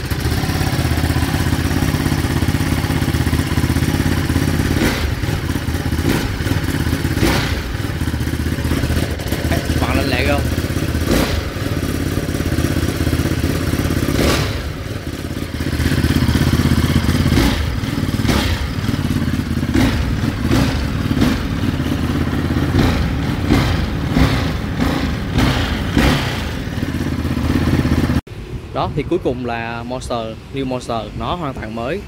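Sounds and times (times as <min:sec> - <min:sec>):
motorcycle engine idling: 0:00.0 - 0:28.6.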